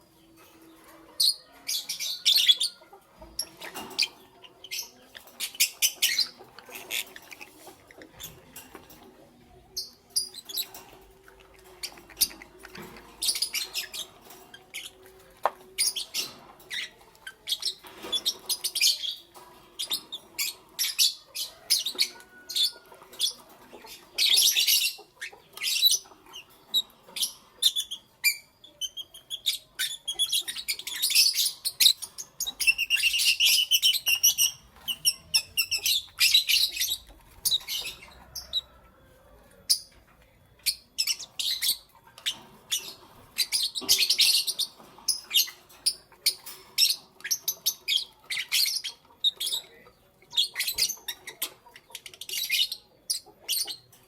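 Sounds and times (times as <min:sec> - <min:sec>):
birds chirping and squawking: 0:00.0 - 0:54.0.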